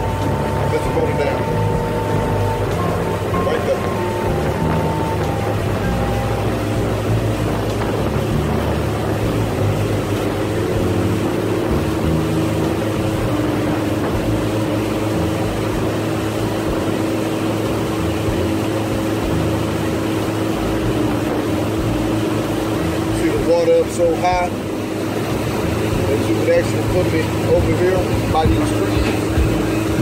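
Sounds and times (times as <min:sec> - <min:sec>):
outboard motor running: 0:00.0 - 0:30.0
water rushing past hull: 0:00.0 - 0:30.0.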